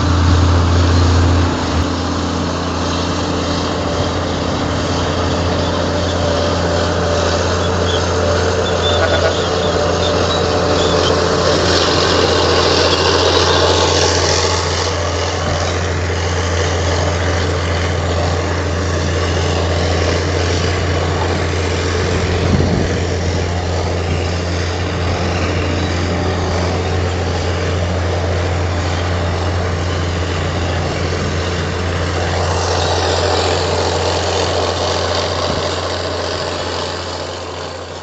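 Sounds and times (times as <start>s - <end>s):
heavy diesel machinery humming: 0.0s - 38.0s.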